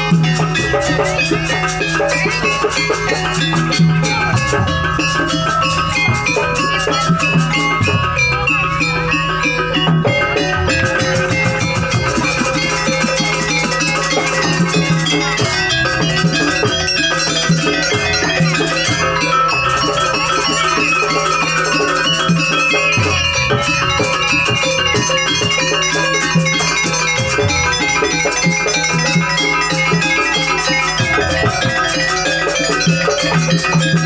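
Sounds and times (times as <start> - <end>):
drums beating driving rhythm: 0.0 - 34.0
metal gongs and metallophones ringing: 0.0 - 34.0.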